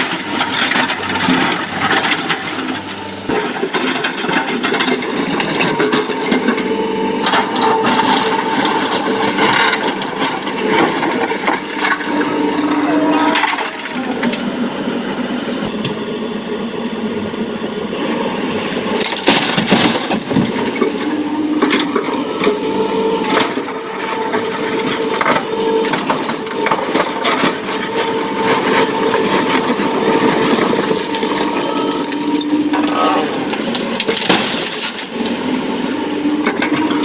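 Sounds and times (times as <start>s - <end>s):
excavator engine and hydraulics whine: 0.0s - 37.0s.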